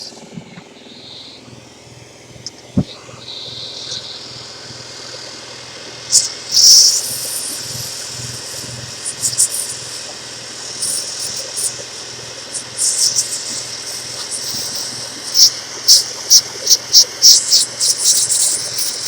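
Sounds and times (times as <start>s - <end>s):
air pump and vacuum humming: 0.0s - 19.0s
hissing air bursts: 2.8s - 19.0s.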